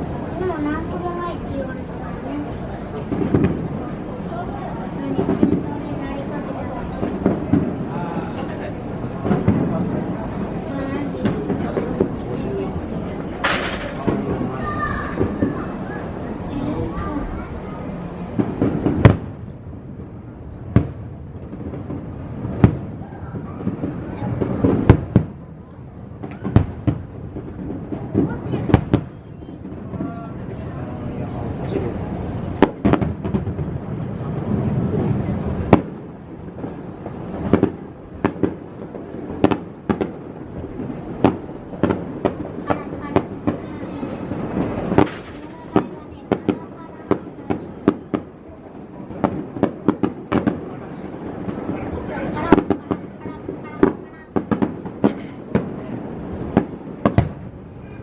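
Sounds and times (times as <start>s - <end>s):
background rumble: 0.0s - 58.0s
fireworks bursting with echo: 0.0s - 58.0s.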